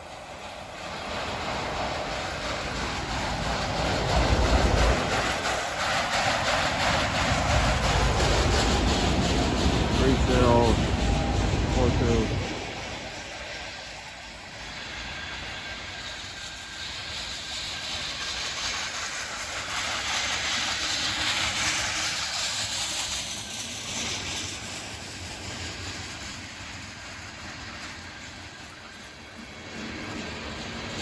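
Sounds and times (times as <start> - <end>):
freight train wheels hissing: 0.0 - 31.0.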